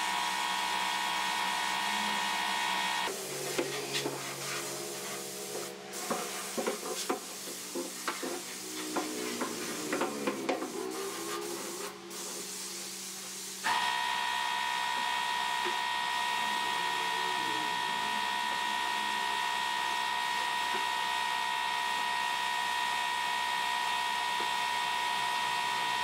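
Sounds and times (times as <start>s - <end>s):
spray gun hissing with whine: 0.0s - 26.0s.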